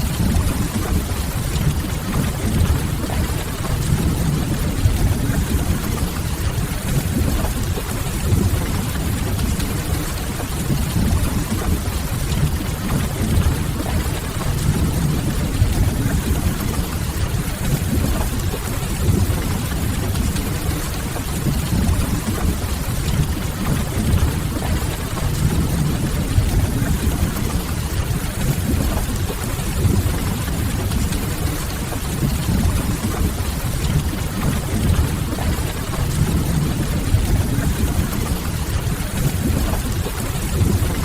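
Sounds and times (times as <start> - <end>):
rain hiss: 0.0 - 41.0.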